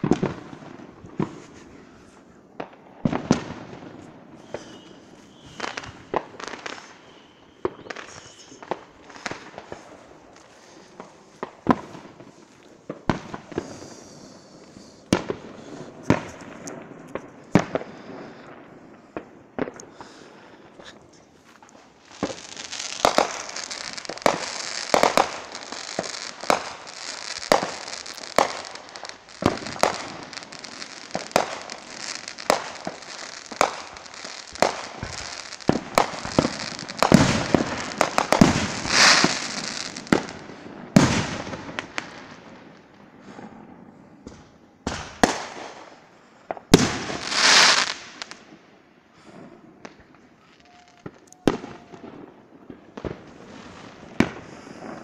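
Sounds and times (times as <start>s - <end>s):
fireworks banging: 0.0s - 48.6s
fireworks crackling hiss: 0.0s - 55.0s.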